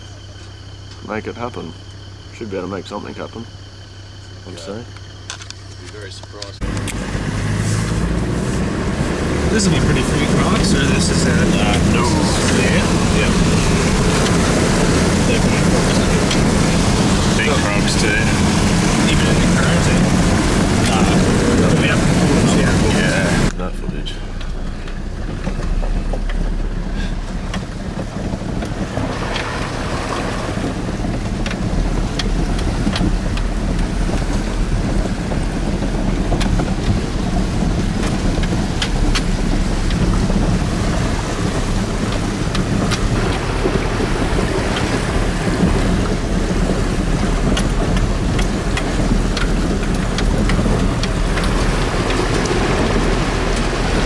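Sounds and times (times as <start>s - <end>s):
vehicle engine running: 0.0s - 54.0s
water rushing against vehicle: 5.9s - 54.0s.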